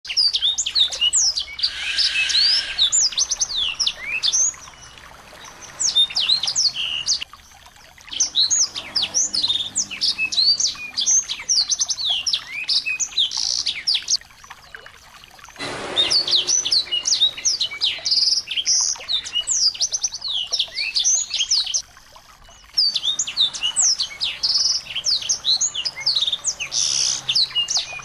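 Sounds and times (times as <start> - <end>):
songbirds chirping: 0.1 - 28.0.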